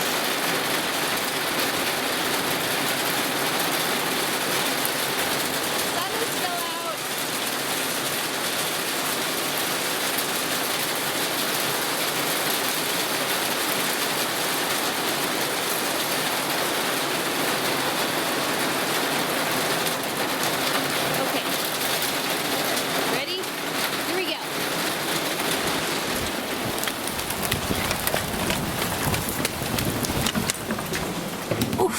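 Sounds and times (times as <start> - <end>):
rain pattering: 0.0 - 31.9.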